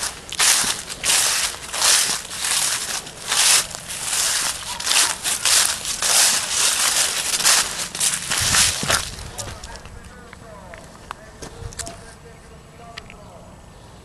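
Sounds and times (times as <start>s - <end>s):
footsteps through dry leaves: 0.0s - 12.2s.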